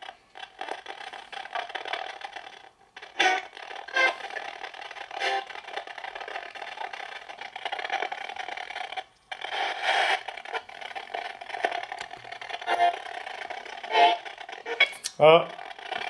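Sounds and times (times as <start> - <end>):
radio static: 0.0 - 16.0
chopped broadcast fragments: 0.3 - 16.0.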